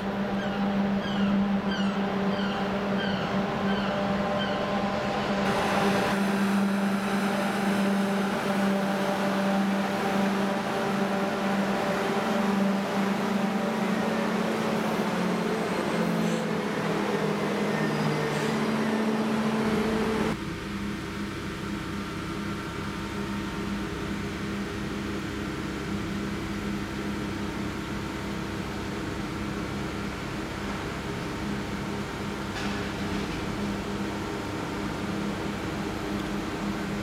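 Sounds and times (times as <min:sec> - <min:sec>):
electric train humming: 0:00.0 - 0:37.0.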